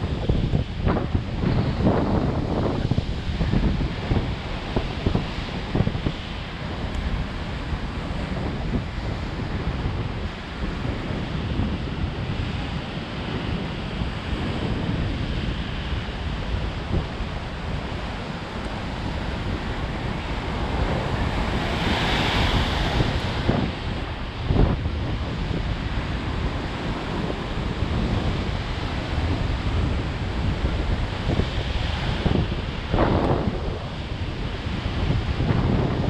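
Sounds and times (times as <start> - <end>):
surf breaking over rocks: 0.0 - 36.0
wind rumbling on microphone: 0.0 - 36.0.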